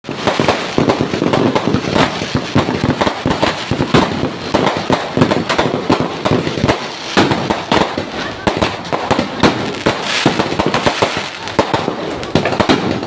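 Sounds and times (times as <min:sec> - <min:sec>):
fireworks sharp bangs: 0:00.0 - 0:13.0.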